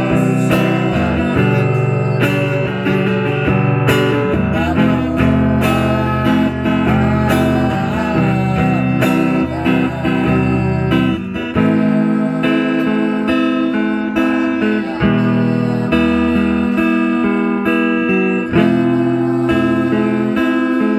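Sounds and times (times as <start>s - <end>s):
acoustic guitar strummed: 0.0s - 20.9s
person singing: 0.0s - 20.9s.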